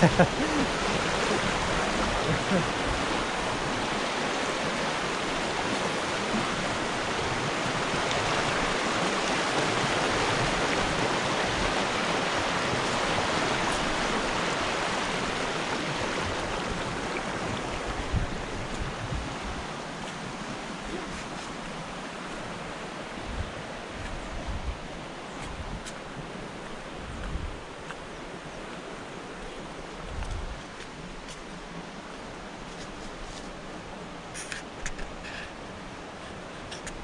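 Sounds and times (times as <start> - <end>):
water rushing over rocks: 0.0 - 37.0.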